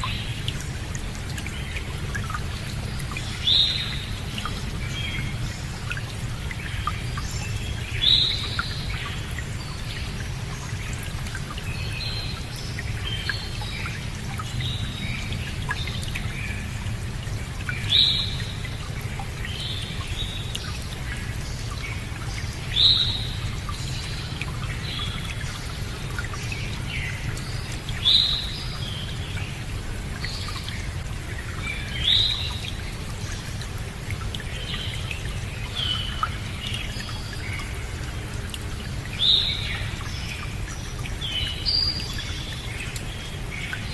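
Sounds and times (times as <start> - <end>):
running water: 0.0 - 43.9
songbirds chirping: 0.0 - 43.9.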